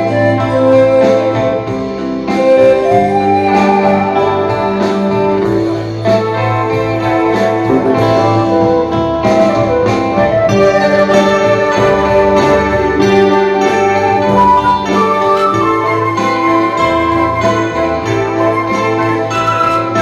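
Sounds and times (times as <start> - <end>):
instrumental music: 0.0 - 20.0.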